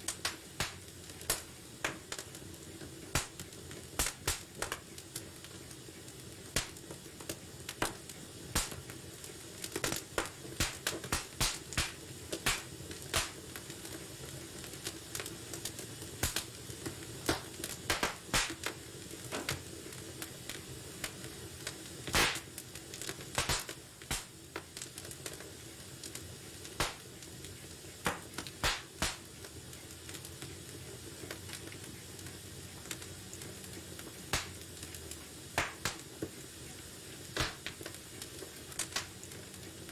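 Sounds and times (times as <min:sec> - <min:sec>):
fire crackling and popping: 0:00.0 - 0:39.9
low hiss of flames: 0:00.0 - 0:39.9.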